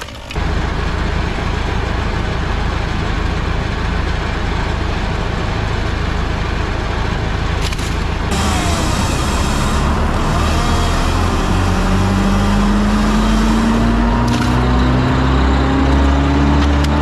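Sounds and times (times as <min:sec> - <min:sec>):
large engine rumbling: 0:00.0 - 0:17.0.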